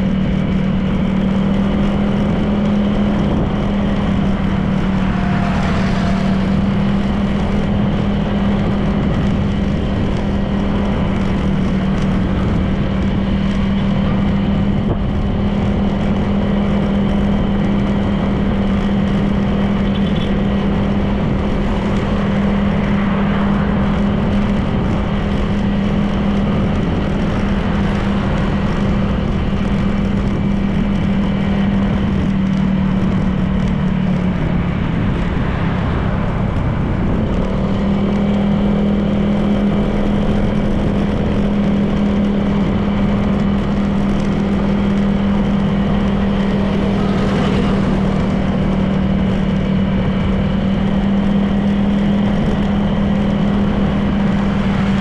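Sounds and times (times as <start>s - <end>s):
scooter engine cruising: 0.0s - 55.0s
wind and road noise: 0.0s - 55.0s.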